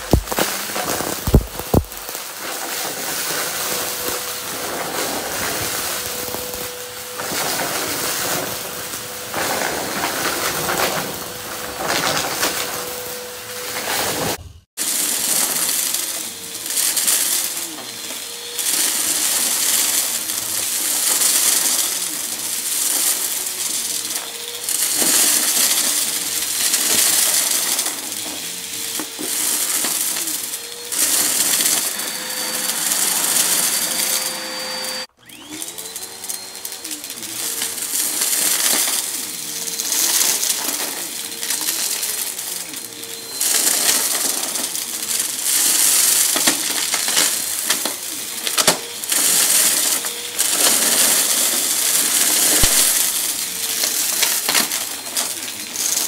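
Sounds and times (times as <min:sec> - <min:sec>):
debris rattling up a nozzle: 0:00.0 - 0:12.9, 0:13.8 - 0:56.0
vacuum cleaner motor whining: 0:00.0 - 0:56.0.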